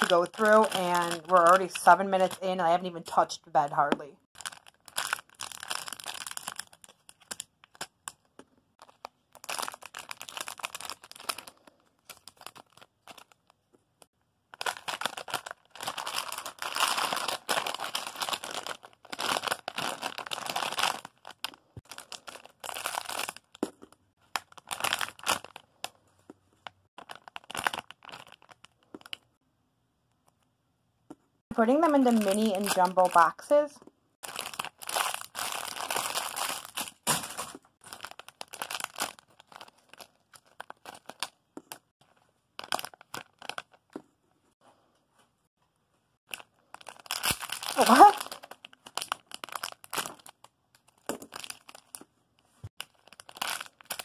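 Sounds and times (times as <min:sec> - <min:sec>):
crinkly plastic rustling: 0:00.0 - 0:03.2, 0:04.3 - 0:13.7, 0:14.5 - 0:26.0, 0:26.6 - 0:29.4, 0:31.6 - 0:33.5, 0:34.2 - 0:44.0, 0:46.2 - 0:54.0.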